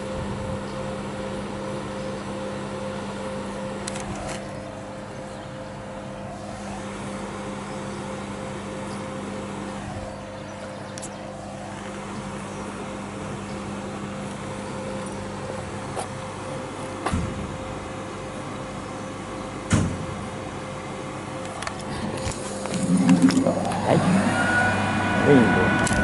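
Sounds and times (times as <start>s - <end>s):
locomotive electrical hum: 0.0s - 26.0s.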